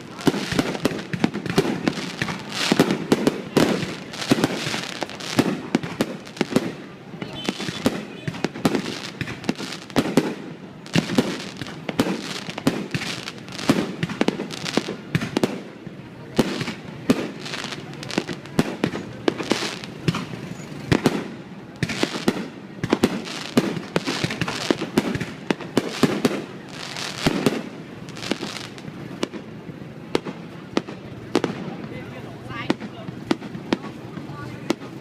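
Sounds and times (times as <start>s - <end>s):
fireworks bangs and booms: 0.0s - 35.0s.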